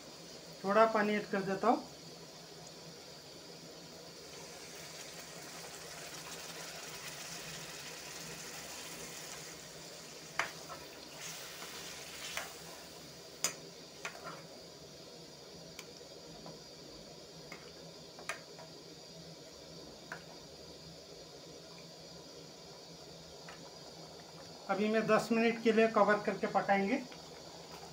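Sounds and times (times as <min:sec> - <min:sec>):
curry sizzling and simmering: 0:00.0 - 0:27.9.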